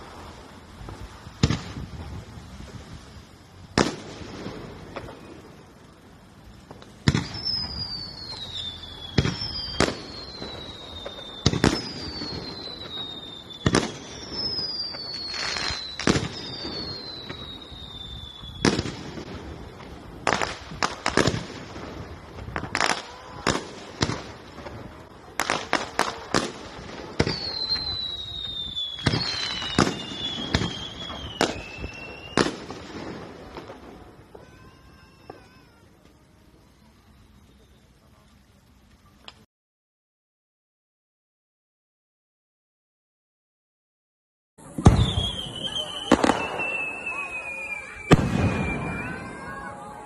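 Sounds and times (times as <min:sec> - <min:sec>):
fireworks bangs: 0:00.0 - 0:37.7, 0:44.6 - 0:50.0
falling firework whistles: 0:00.0 - 0:38.5, 0:44.6 - 0:50.0.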